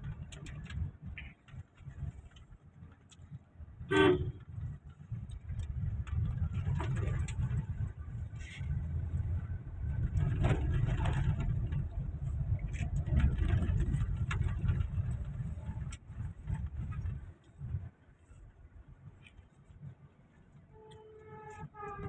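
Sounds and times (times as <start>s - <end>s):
car driving rumble from inside: 0.0s - 22.0s.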